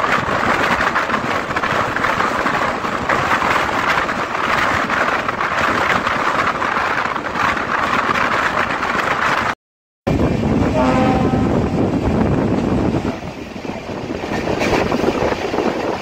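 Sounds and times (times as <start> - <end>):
train wheels rushing: 0.0 - 16.0
wind buffeting microphone: 0.0 - 16.0
wind of passing train: 0.0 - 16.0.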